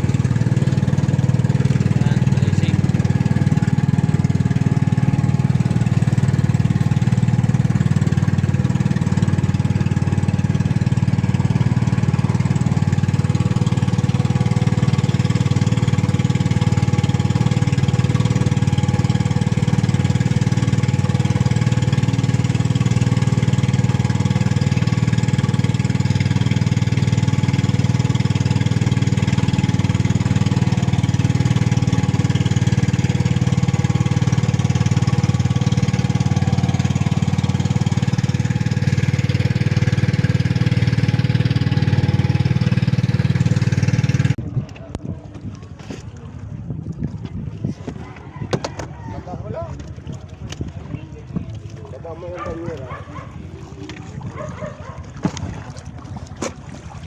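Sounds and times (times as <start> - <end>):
small engine running steadily: 0.0 - 46.6, 49.6 - 57.0.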